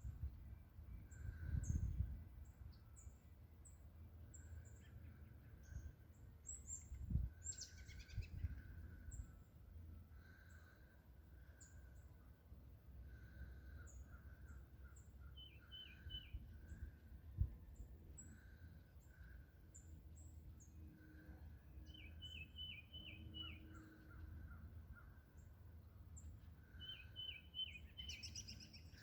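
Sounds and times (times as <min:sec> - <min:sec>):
faint songbirds chirping: 0:00.0 - 0:29.0
low steady background rumble: 0:00.0 - 0:29.0.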